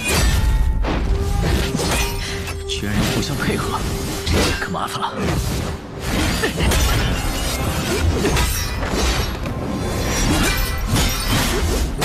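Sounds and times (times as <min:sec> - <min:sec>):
orchestral music score: 0:00.0 - 0:12.0.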